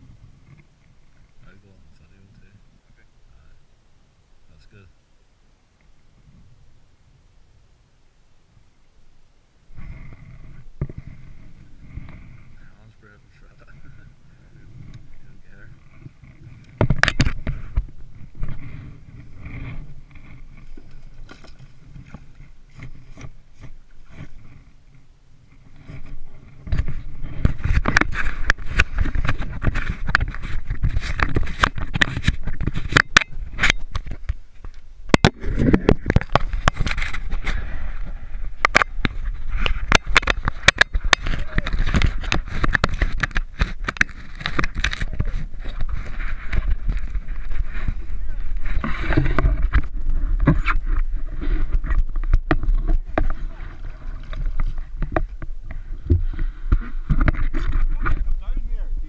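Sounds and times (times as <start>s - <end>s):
wind rumble on camera: 0.0s - 3.6s, 9.6s - 59.0s.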